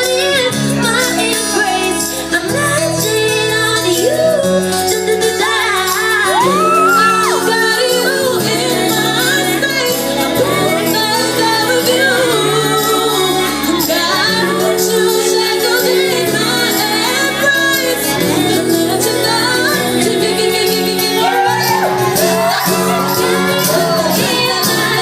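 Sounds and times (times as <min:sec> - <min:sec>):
female group singing in harmony: 0:00.0 - 0:25.0
instrumental accompaniment: 0:00.0 - 0:25.0.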